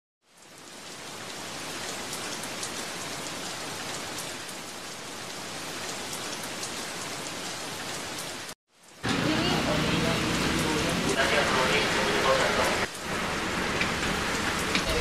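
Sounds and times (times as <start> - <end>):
steady rain: 0.2 - 15.0.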